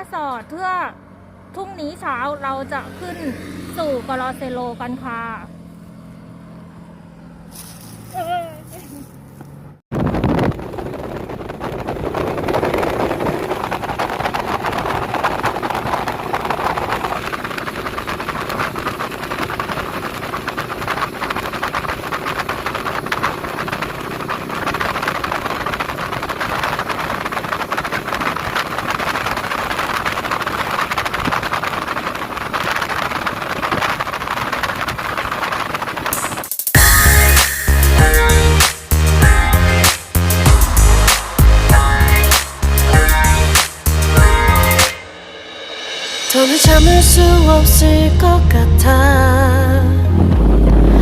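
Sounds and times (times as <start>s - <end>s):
car engine running: 0.0s - 51.0s
road noise: 0.0s - 51.0s.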